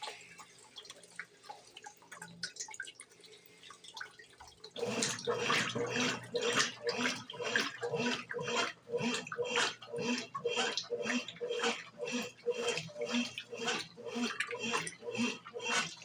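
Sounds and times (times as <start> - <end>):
washing machine water sloshing: 0.0 - 16.0
water dripping and trickling: 0.0 - 16.0.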